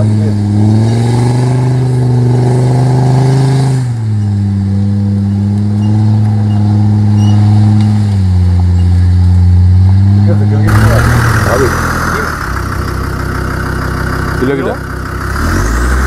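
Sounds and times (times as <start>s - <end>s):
diesel engine pulling under load: 0.0s - 16.0s.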